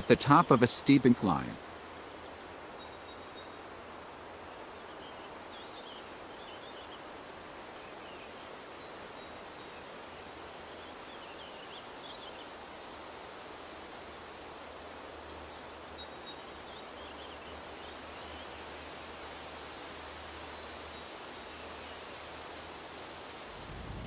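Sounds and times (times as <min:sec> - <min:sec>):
woodland background noise: 0:00.0 - 0:24.0.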